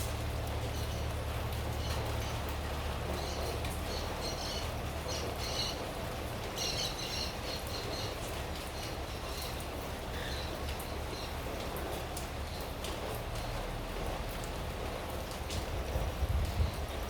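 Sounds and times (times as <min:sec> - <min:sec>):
steady rain falling on bush: 0:00.0 - 0:17.0.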